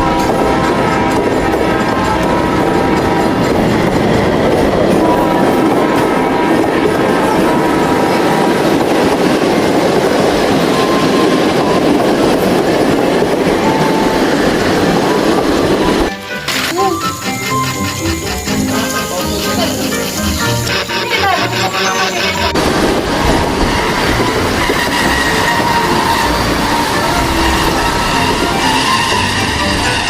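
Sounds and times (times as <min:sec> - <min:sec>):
train rail clatter: 0:00.0 - 0:30.0.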